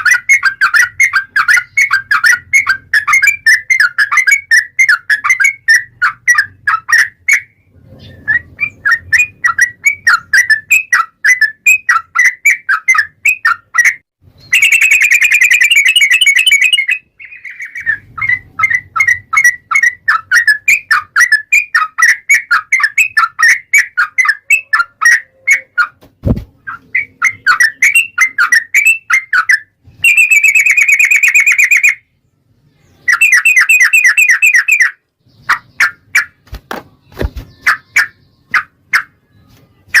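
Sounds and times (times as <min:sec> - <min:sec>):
bird singing chattering chirps: 0:00.0 - 0:26.0, 0:26.6 - 0:36.4, 0:37.3 - 0:39.2.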